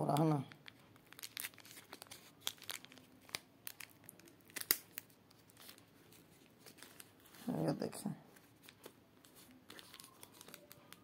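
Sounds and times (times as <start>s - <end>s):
plastic packet crinkling: 0.0s - 7.8s, 8.4s - 11.0s.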